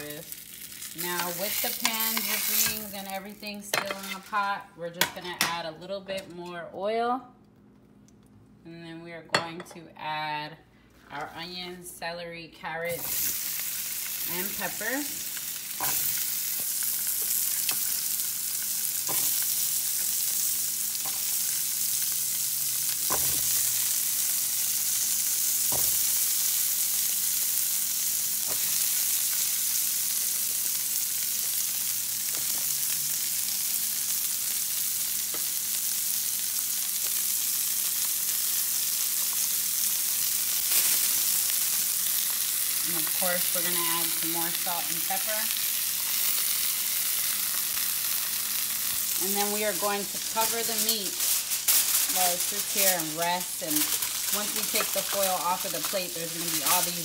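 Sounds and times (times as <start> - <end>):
vegetables sizzling in oil: 0.0 - 4.4, 12.9 - 57.0.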